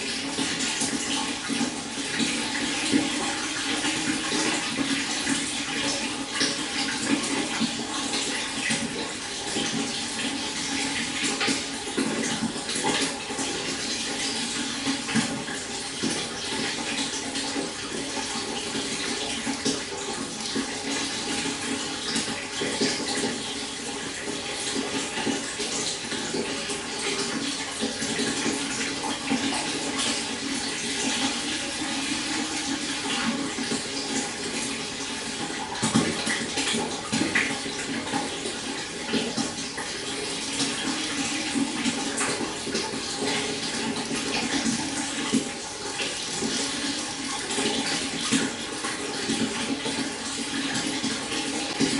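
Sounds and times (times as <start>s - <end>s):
stream water flowing: 0.0s - 51.9s.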